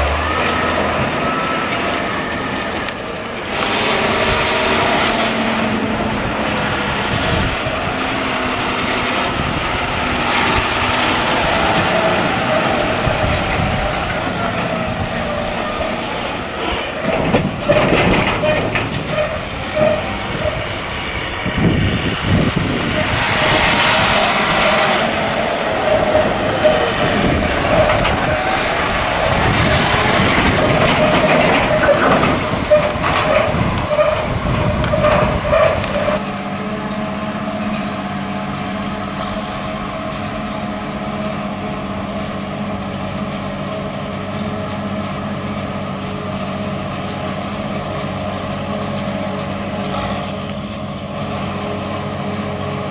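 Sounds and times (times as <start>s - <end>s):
clattering rushing machine noise: 0.0s - 52.9s
tractor diesel engines working: 0.0s - 52.9s.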